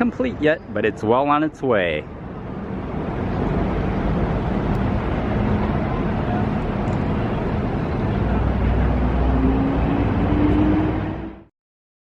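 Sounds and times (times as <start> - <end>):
vehicle engines and traffic rumble: 0.0 - 11.5.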